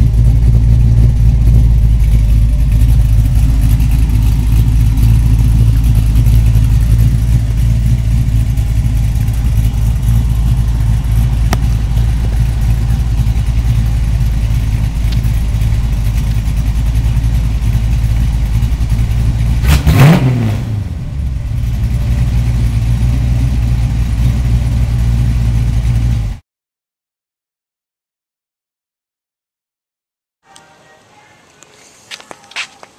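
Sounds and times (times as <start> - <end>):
v eight engine idling and revving: 0.0 - 26.4.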